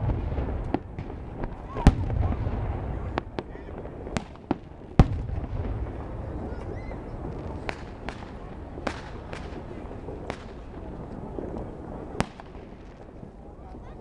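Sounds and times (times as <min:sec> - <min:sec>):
sharp firework bangs: 0:00.0 - 0:11.6, 0:12.2 - 0:13.1
low fireworks rumble: 0:00.0 - 0:14.0.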